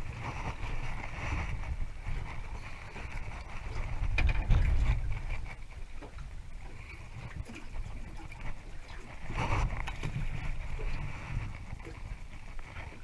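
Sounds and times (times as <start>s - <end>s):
wind rumbling on microphone: 0.0s - 13.0s
water slapping against boat hull: 0.2s - 13.0s.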